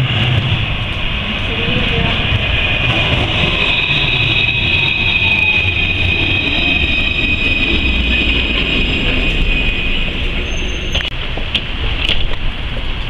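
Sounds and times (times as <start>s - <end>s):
high-pitched squeal: 0.0s - 11.1s
tram rumbling: 0.0s - 13.0s.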